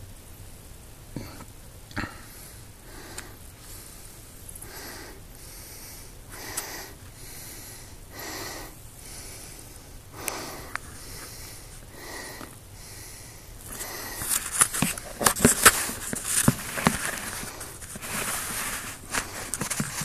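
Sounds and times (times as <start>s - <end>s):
person breathing: 1.2s - 20.0s.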